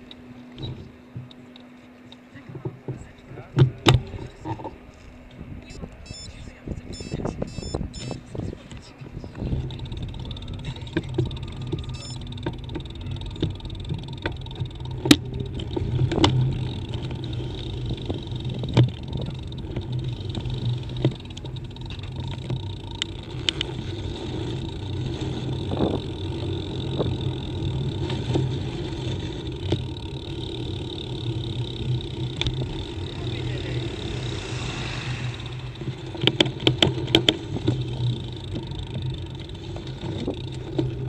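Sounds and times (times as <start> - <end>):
bicycle riding hum: 0.0 - 41.0
bicycle knocks and rattles: 2.4 - 4.7, 9.3 - 41.0.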